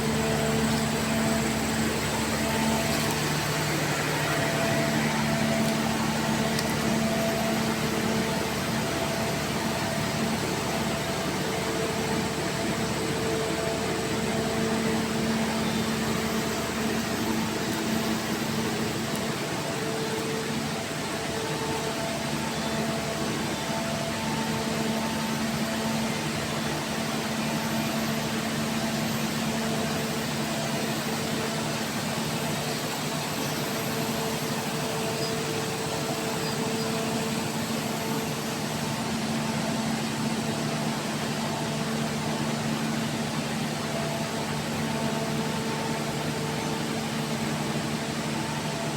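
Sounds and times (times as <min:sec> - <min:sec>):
machinery running steadily: 0:00.0 - 0:48.9.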